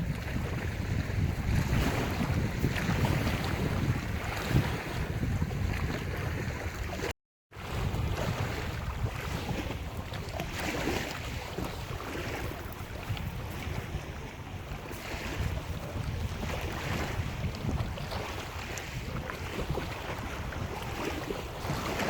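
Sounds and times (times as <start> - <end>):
surf breaking on shore: 0.0 - 22.0
wind buffeting microphone: 0.0 - 22.0.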